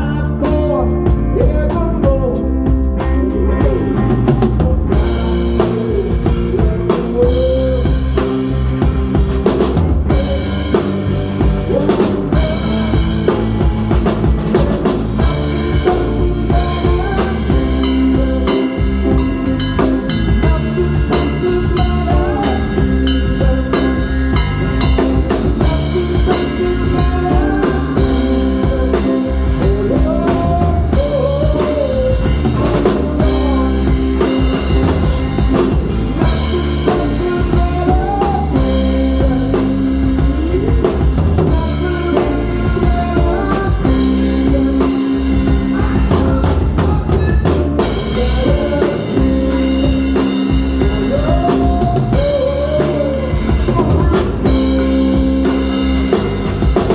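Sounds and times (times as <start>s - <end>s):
bass guitar: 0.0s - 56.9s
drum kit beat: 0.0s - 56.9s
electric guitars holding chords: 0.0s - 56.9s
bending melody line: 3.6s - 56.9s.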